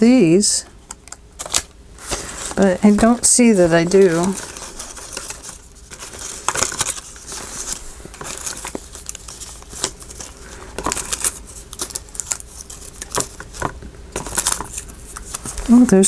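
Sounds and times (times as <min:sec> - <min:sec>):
paper crinkling and rustling: 0:00.8 - 0:16.0.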